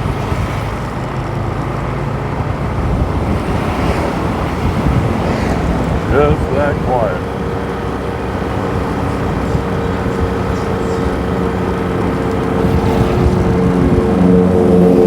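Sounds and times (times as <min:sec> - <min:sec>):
motorbike engine droning: 0:00.0 - 0:15.0
road noise: 0:00.0 - 0:15.0
wind: 0:00.0 - 0:15.0.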